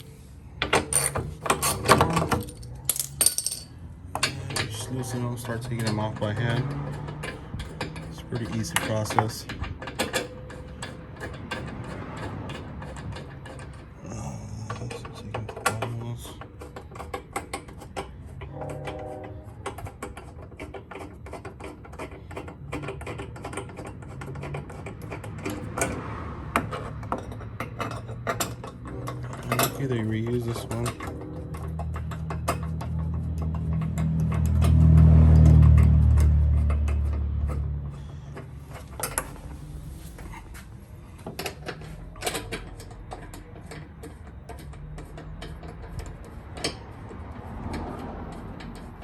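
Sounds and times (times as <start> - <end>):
hand tools clicking and knocking: 0.0 - 49.0.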